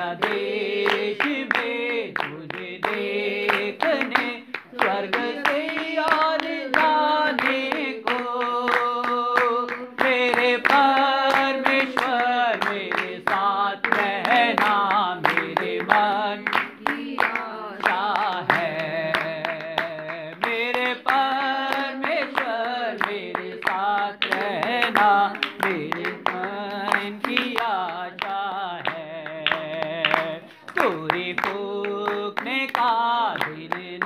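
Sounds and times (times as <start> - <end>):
hand clapping on the beat: 0.0 - 34.0
voices singing a hymn: 0.0 - 34.0.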